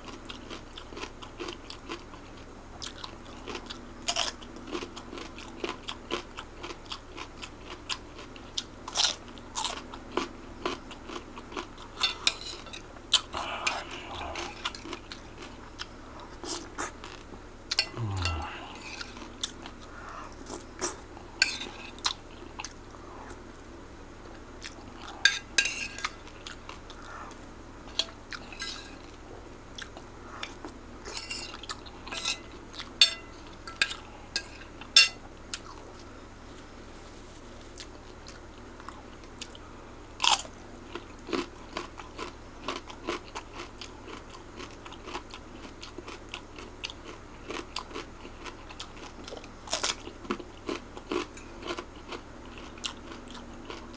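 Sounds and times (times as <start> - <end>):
chewing and crunching: 0.0 - 23.5, 24.2 - 36.6, 37.6 - 53.9.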